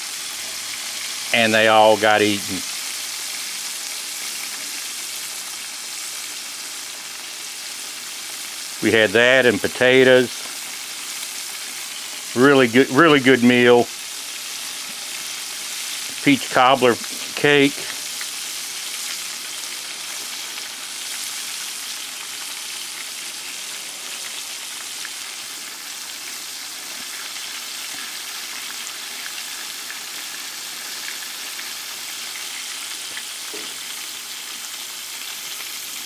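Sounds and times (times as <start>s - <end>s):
meat sizzling in hot oil: 0.0s - 36.0s.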